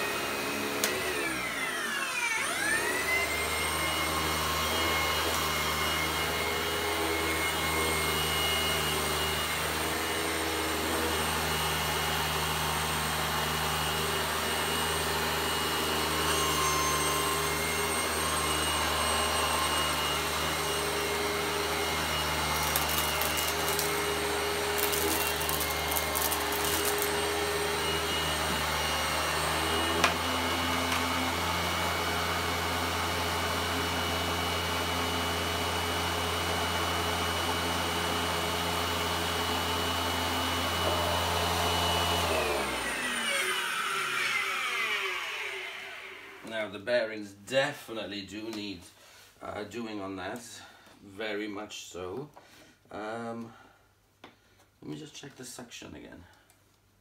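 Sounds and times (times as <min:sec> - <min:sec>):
vacuum cleaner motor whining: 0:00.0 - 0:46.6.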